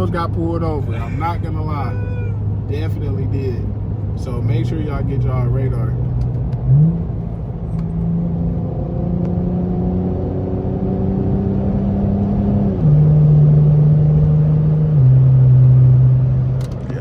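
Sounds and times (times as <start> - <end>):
car engine accelerating through gears: 2.4 - 17.0.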